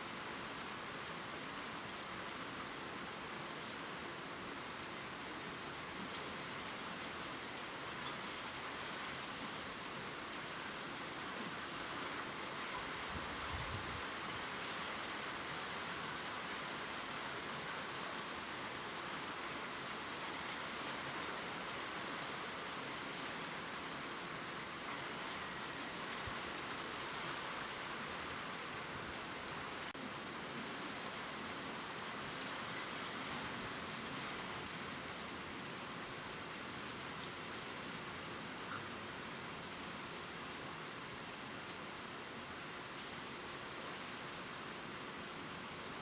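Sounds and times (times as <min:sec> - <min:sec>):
rain falling on leaves: 0:00.0 - 0:46.0.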